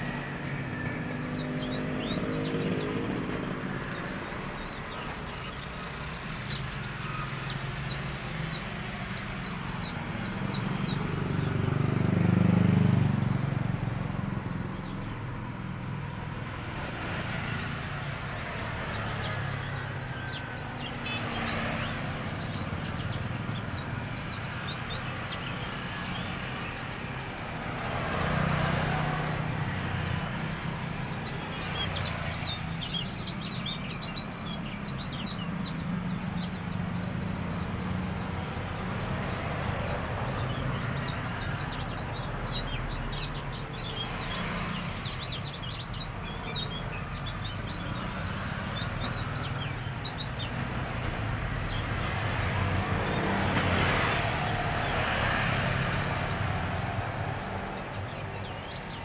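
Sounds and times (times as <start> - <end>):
bird chirping and twittering: 0.0 - 59.0.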